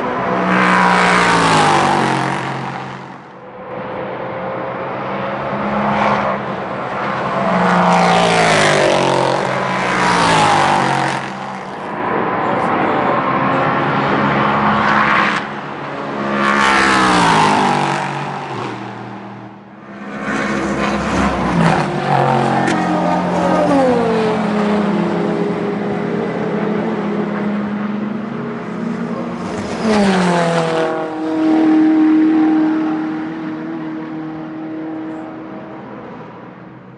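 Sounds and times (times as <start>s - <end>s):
race cars passing at speed: 0.0s - 36.9s.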